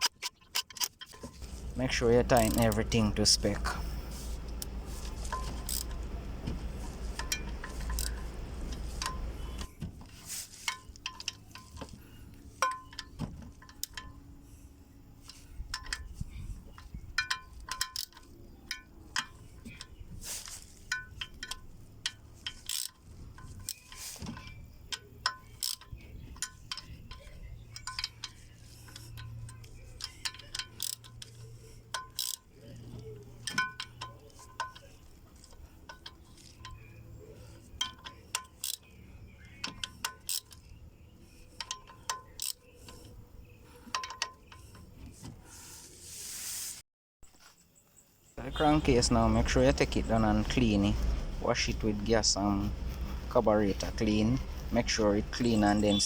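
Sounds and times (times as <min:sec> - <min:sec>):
metal tools clinking: 0:00.0 - 0:14.2, 0:15.2 - 0:45.0, 0:48.4 - 0:56.0
low steady hum: 0:01.1 - 0:46.3, 0:48.4 - 0:56.0.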